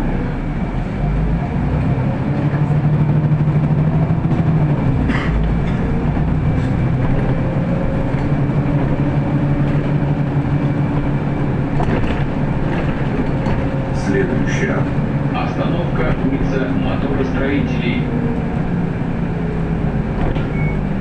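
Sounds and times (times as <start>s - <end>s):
bus engine drone: 0.0s - 21.0s
road rumble: 0.0s - 21.0s.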